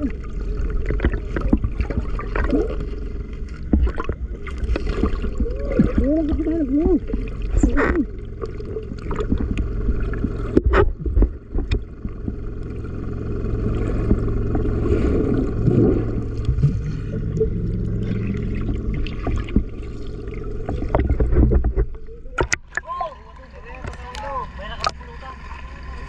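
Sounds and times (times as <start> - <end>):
boat engine drone: 0.0 - 26.0
water noise: 0.0 - 26.0.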